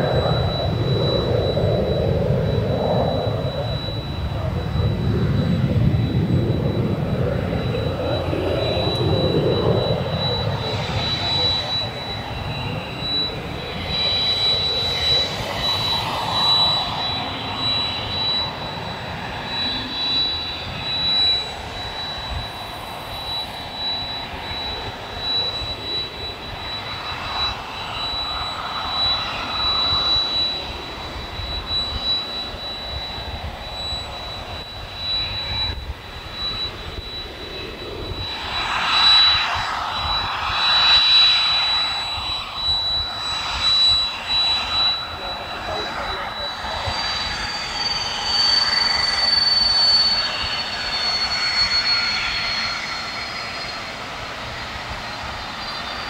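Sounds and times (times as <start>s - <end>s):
high jet whine: 0.0s - 56.0s
jet engines at takeoff power: 0.0s - 56.0s.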